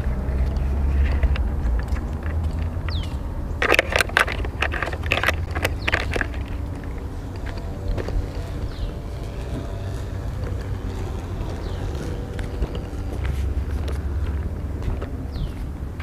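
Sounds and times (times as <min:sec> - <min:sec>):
steady low rumble: 0:00.0 - 0:16.0
sharp clicks and knocks: 0:00.4 - 0:15.6.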